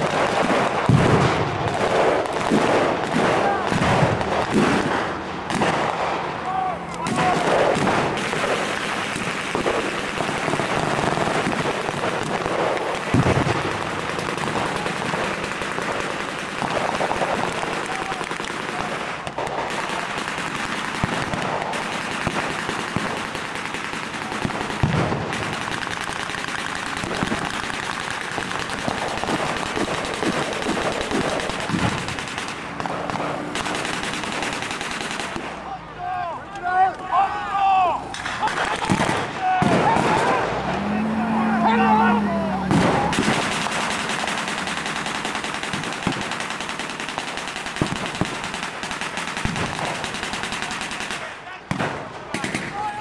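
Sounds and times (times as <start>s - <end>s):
gunfire crackle: 0.0s - 35.9s, 38.0s - 53.0s
heavy bangs: 0.0s - 53.0s.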